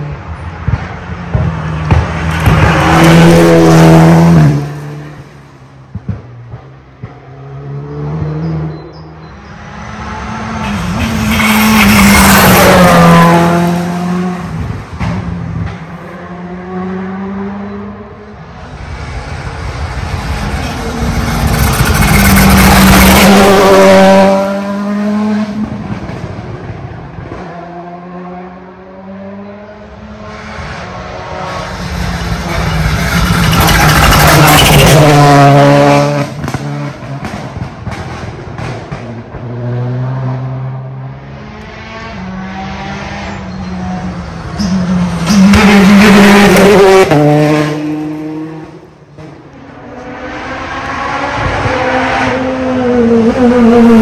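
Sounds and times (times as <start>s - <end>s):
rally cars passing at speed: 0.0s - 54.0s.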